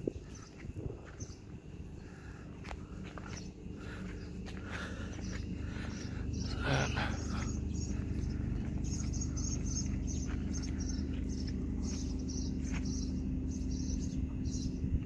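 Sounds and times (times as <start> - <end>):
insect chirping: 0.0 - 15.0
steady low hum: 0.0 - 15.0.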